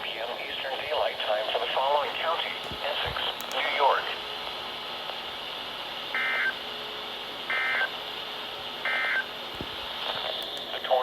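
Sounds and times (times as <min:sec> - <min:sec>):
broadcast hiss: 0:00.0 - 0:11.0.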